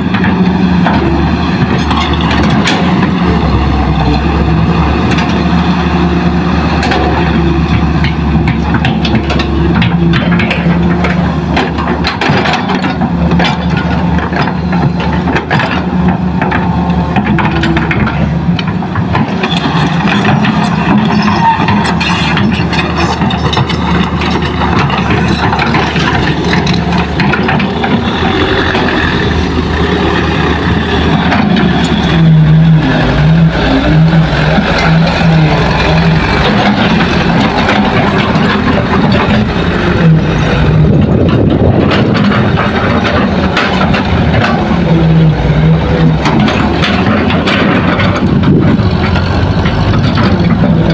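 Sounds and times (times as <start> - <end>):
diesel engines droning: 0.0 - 50.9.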